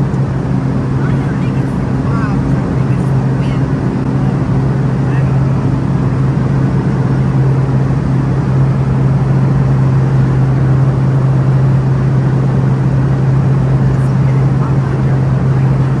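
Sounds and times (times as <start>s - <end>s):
plane engine drone: 0.0s - 16.0s.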